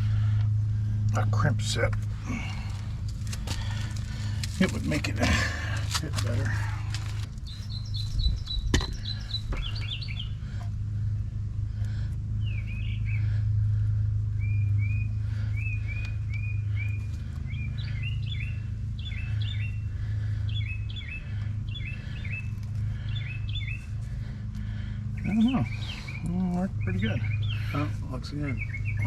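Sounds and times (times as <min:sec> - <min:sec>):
steady low hum: 0:00.0 - 0:29.0
small birds chirping: 0:01.6 - 0:29.0.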